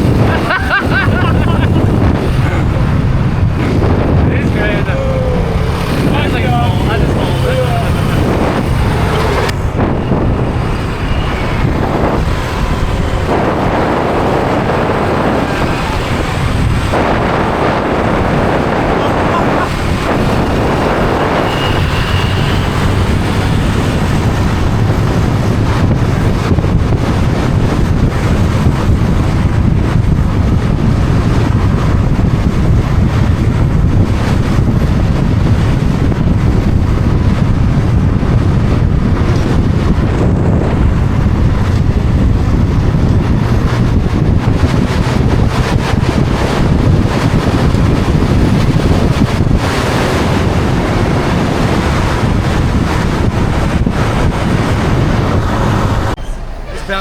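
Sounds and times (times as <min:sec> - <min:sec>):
motorbike engine humming: 0:00.0 - 0:57.0
wind rushing over microphone: 0:00.0 - 0:57.0.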